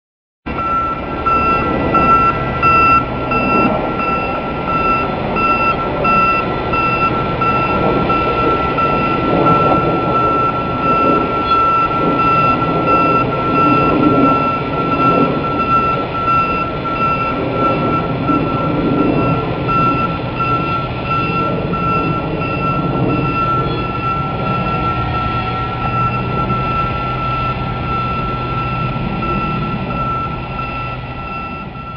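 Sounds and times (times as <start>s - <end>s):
crane engine running: 0.5s - 31.9s
crane warning alarm beeping: 0.5s - 31.9s.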